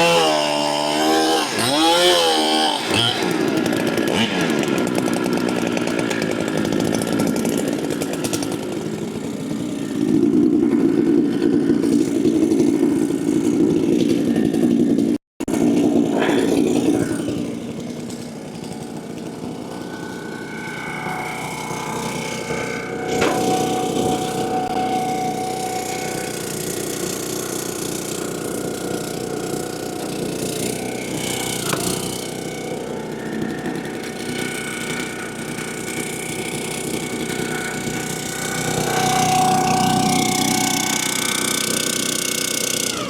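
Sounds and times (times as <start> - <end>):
chainsaw revving and cutting log: 0.0 - 43.0.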